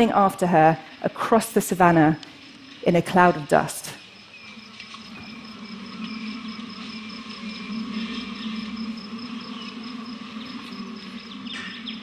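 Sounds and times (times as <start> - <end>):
bees buzzing: 0.0 - 12.0
faint chirps: 0.0 - 12.0.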